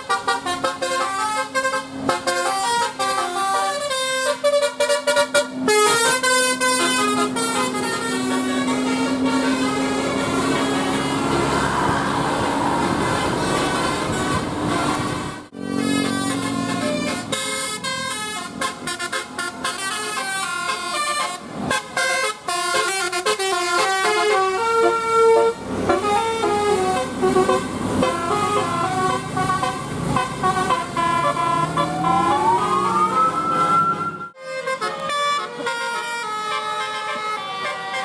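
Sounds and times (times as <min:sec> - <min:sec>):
musical bus air horn: 0:00.0 - 0:38.0.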